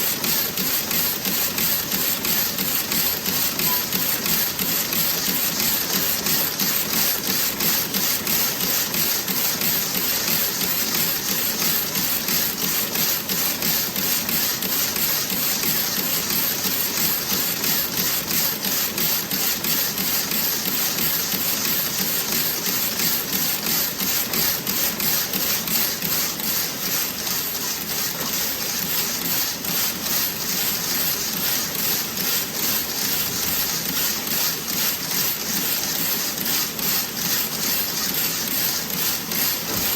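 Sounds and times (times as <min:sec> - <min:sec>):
knitting machine clatter: 0:00.0 - 0:39.9.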